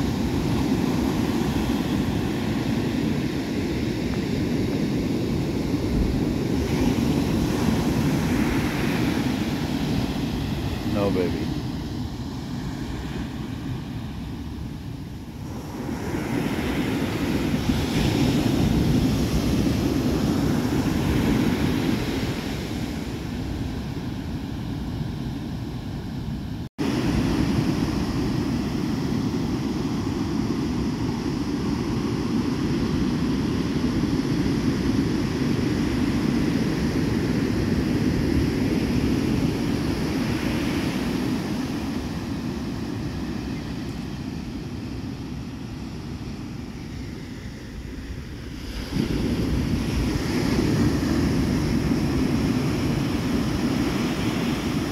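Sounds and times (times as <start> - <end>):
ocean surf breaking on sand: 0.0 - 54.9
wind rumbling on microphone: 0.0 - 54.9.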